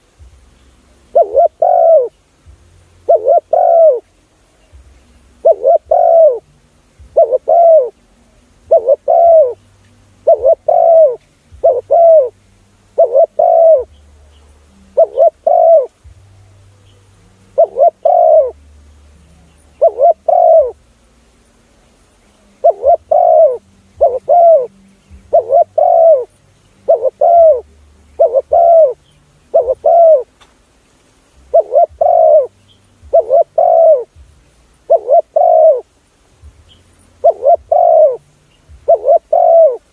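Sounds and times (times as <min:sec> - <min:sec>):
dove cooing: 0:00.9 - 0:02.3, 0:03.0 - 0:09.6, 0:10.2 - 0:18.6, 0:19.2 - 0:20.9, 0:22.2 - 0:30.4, 0:31.4 - 0:36.0, 0:36.6 - 0:39.9.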